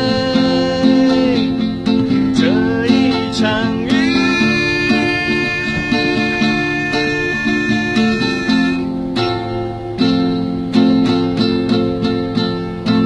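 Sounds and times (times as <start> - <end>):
acoustic guitar chords picked: 0.0 - 13.0.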